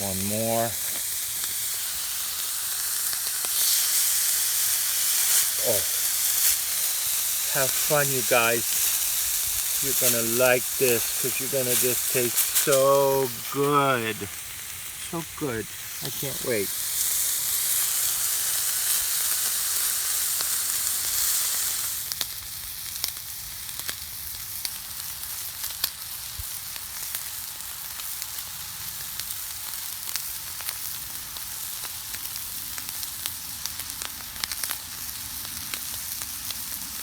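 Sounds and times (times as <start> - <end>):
steaks sizzling on a griddle: 0.0 - 37.0.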